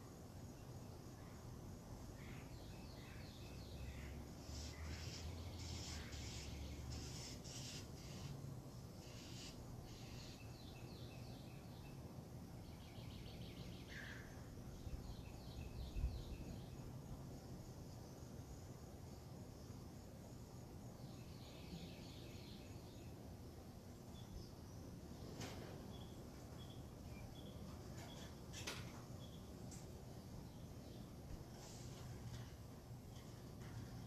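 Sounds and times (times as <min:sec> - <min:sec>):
distant birds chirping: 0:00.6 - 0:17.0, 0:21.0 - 0:34.0.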